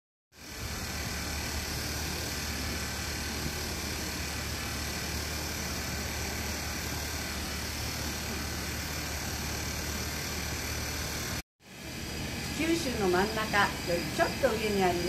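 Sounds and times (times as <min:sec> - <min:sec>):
even hiss: 0:00.4 - 0:15.0.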